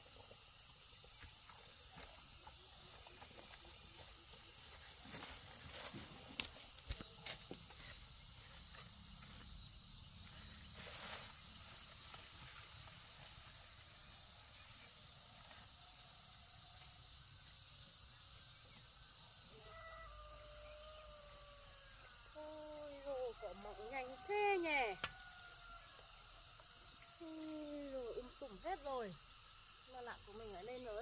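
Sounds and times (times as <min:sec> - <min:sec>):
high-pitched insect drone: 0:00.0 - 0:31.0
rustle: 0:00.0 - 0:31.0.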